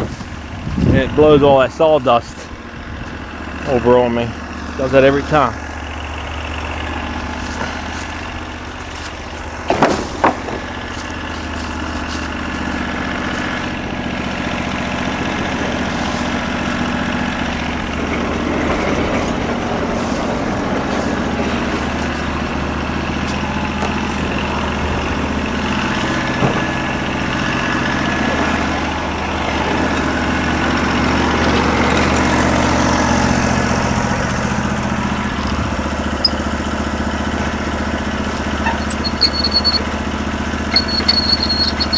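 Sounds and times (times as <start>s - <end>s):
band sawmill cutting log: 0.0s - 41.9s.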